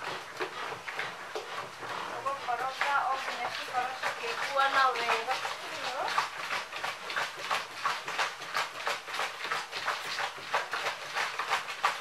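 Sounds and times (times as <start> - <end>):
wooden spoon beating batter: 0.0 - 12.0.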